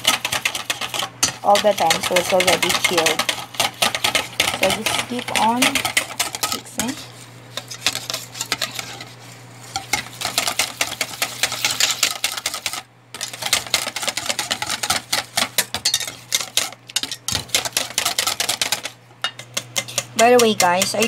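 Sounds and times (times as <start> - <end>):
whisk ticking in metal bowl: 0.0 - 7.0, 9.8 - 21.0.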